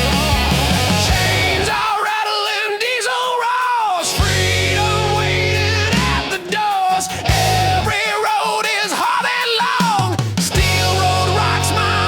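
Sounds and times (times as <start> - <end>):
rock music with bending lead guitar: 0.0 - 2.6, 4.0 - 12.0.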